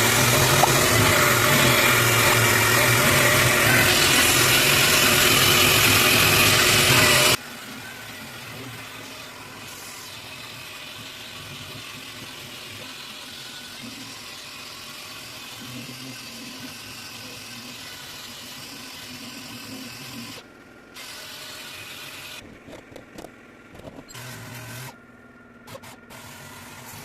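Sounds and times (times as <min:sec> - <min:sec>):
mechanical running hum: 0:00.0 - 0:27.0.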